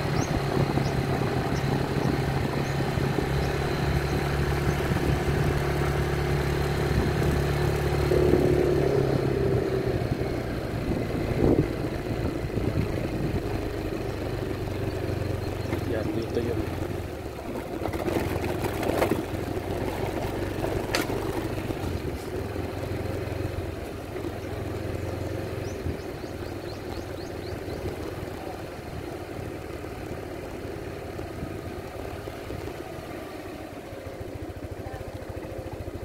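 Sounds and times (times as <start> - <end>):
road noise: 0.0 - 36.0
scooter engine running: 0.0 - 36.0.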